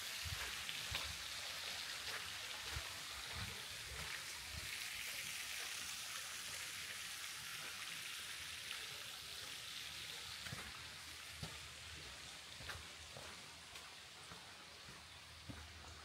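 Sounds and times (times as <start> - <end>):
running water hissing: 0.0 - 16.0.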